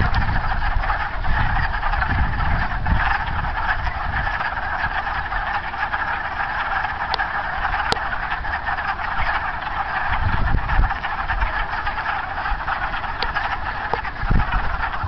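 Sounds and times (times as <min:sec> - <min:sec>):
frogs clucking in chorus: 0:00.0 - 0:15.0.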